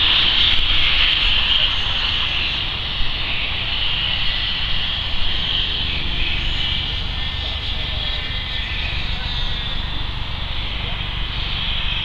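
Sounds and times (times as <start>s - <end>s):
model jet engine whine: 0.0s - 12.0s
wind rumble on microphone: 0.0s - 12.0s.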